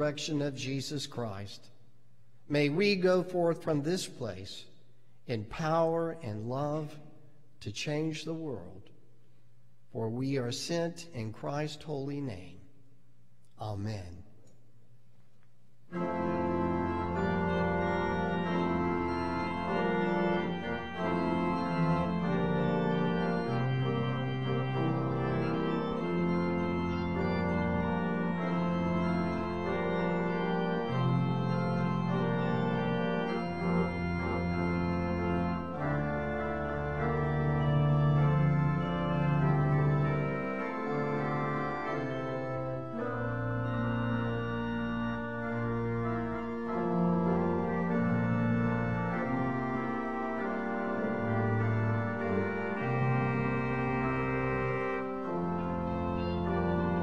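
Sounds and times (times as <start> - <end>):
church organ playing chords: 0.0 - 1.6, 2.4 - 12.5, 15.8 - 57.0.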